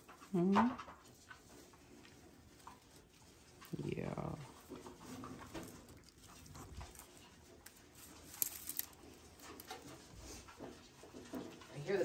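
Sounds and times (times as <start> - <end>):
rustling of wood shavings: 1.0 - 11.8.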